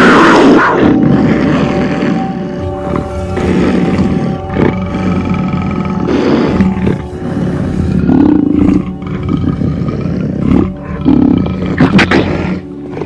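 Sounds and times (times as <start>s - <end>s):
background music with held tones: 0.0s - 13.0s
big cat roaring: 0.0s - 13.0s.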